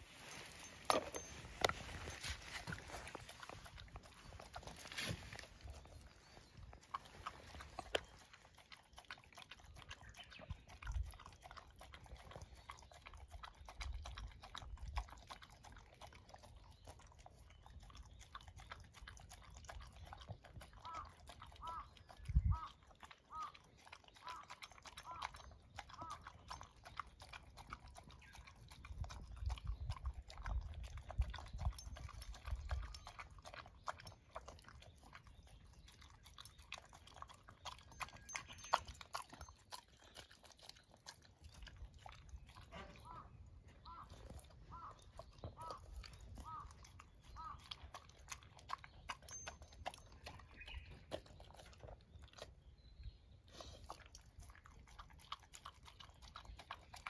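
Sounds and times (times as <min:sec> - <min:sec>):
dog licking and chewing: 0:00.8 - 0:57.0.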